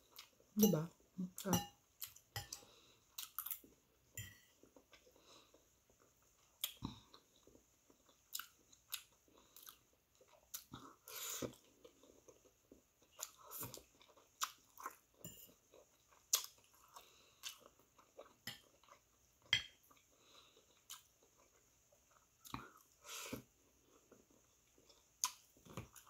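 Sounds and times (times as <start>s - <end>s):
chewing noodles: 2.0s - 3.8s, 4.6s - 26.0s.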